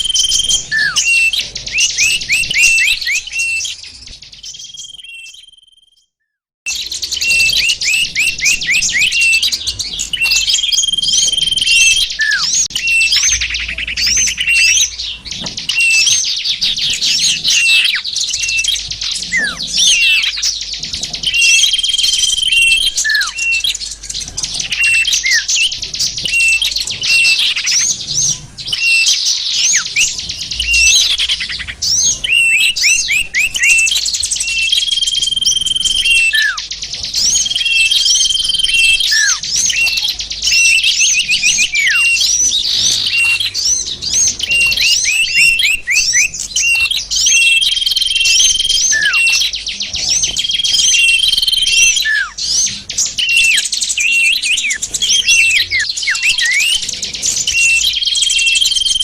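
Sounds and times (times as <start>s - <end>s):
songbirds chirping: 0.0s - 6.1s, 6.7s - 59.0s.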